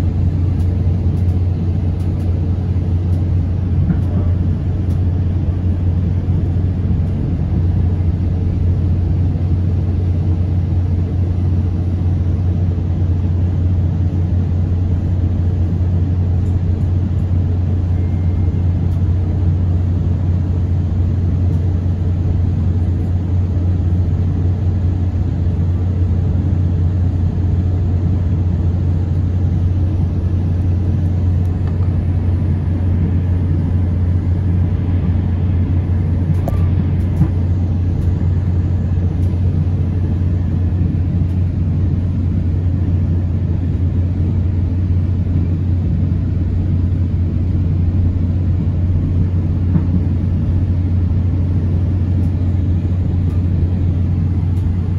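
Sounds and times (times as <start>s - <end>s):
train rumble inside passenger coach: 0.0s - 54.9s.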